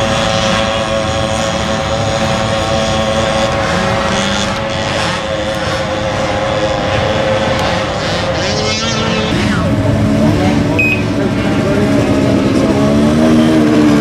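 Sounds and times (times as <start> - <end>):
small engines buzzing at high revs: 0.0 - 14.0.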